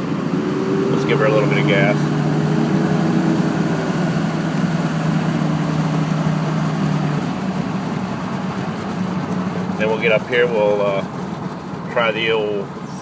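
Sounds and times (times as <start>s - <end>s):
pickup diesel engine droning: 0.0s - 13.0s.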